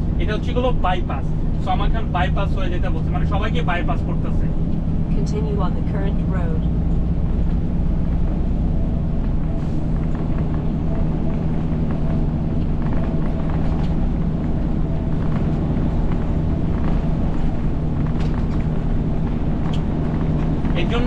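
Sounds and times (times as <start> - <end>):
diesel truck engine: 0.0 - 21.0
road noise inside cab: 0.0 - 21.0.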